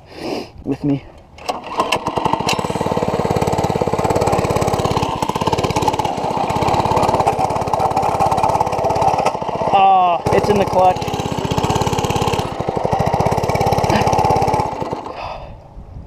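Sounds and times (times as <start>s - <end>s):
mini bike engine running: 1.5s - 15.4s.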